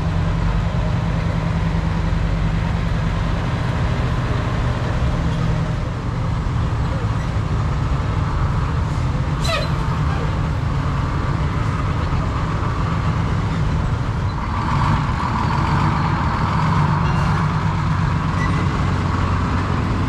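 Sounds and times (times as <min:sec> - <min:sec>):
fire engine rumbling past: 0:00.0 - 0:20.0.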